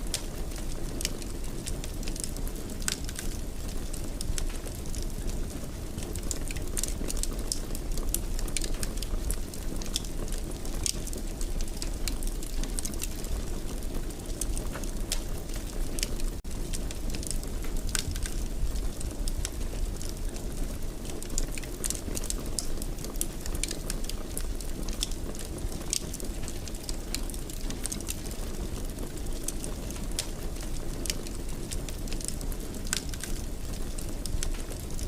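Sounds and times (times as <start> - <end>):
low rumble of flames: 0.0 - 35.0
wood fire crackling and snapping: 0.0 - 35.0.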